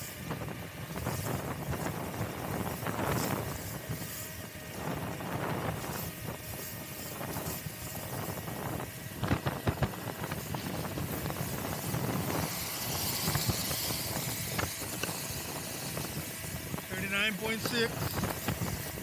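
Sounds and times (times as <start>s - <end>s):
tyre hiss on wet road: 0.0s - 19.0s.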